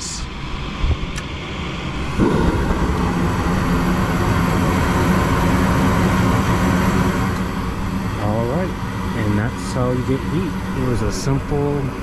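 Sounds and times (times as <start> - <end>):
draft-inducer fan running: 0.0 - 12.0
gas burners lighting and burning: 0.8 - 12.0.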